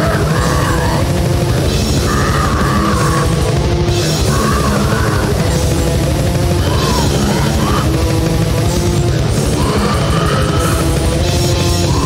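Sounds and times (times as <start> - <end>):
heavy metal drums and guitars: 0.0 - 12.0.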